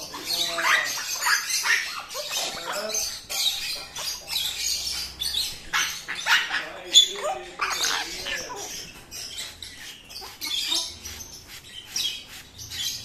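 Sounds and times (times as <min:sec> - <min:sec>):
parrots screeching and squawking: 0:00.0 - 0:13.0.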